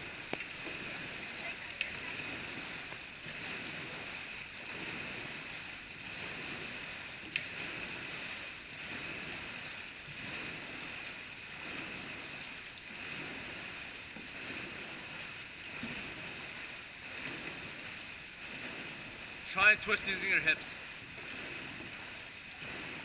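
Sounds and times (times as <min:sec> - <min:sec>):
paddles splashing through water: 0:00.0 - 0:23.0.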